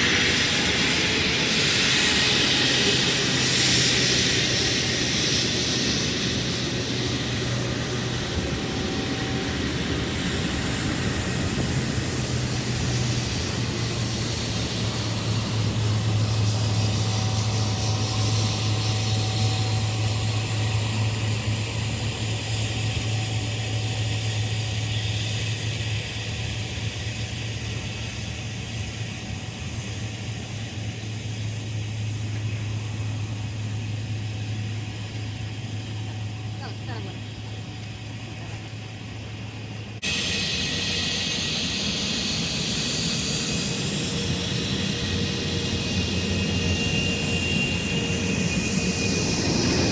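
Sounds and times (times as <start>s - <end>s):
jet airliner engine roar: 0.0s - 49.9s.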